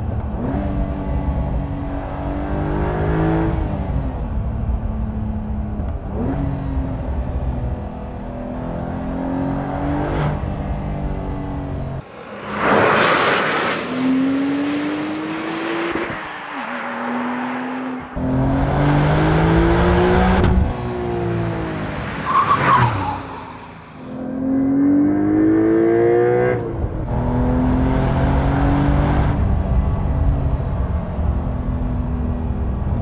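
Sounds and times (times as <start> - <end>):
car engine accelerating hard: 0.1 - 33.0.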